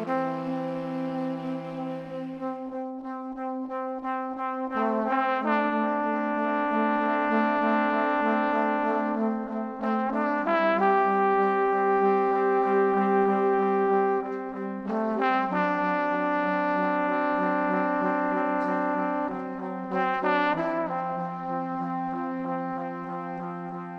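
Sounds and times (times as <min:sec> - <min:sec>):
brass-like music chords: 0:00.0 - 0:23.9.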